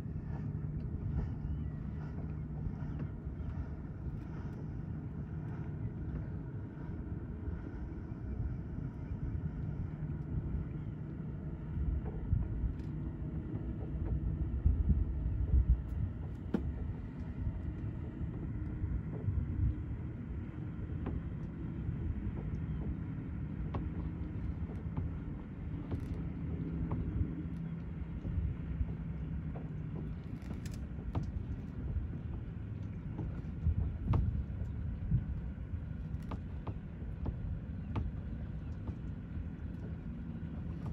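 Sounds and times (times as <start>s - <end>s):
boat engine humming: 0.0s - 40.9s
wind rumbling on microphone: 0.0s - 40.9s.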